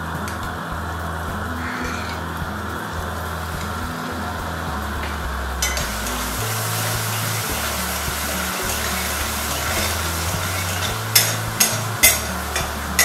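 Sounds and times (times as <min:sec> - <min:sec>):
background music with bass: 0:00.0 - 0:13.0
food sizzling in a pan: 0:01.2 - 0:13.0
spatula stirring: 0:01.3 - 0:13.0.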